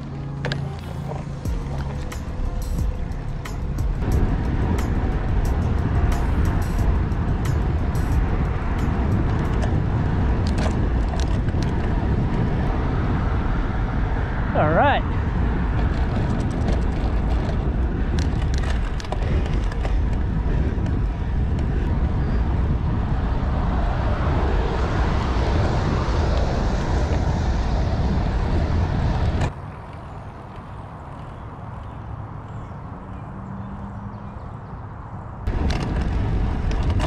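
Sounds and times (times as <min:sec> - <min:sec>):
bike road noise rumble: 0:00.0 - 0:37.0
wind rushing over microphone: 0:01.2 - 0:37.0.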